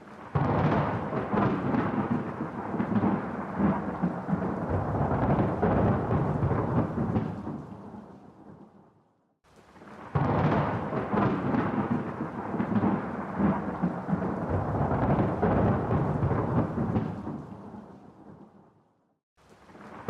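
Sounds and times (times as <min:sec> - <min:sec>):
thunder rumbling: 0:00.0 - 0:08.8, 0:09.8 - 0:18.6.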